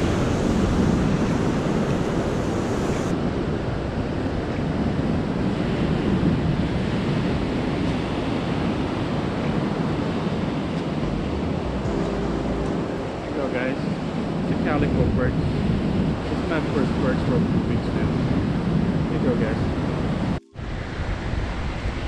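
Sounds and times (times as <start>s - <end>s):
ocean surf breaking: 0.0s - 22.0s
wind on microphone: 0.0s - 22.0s.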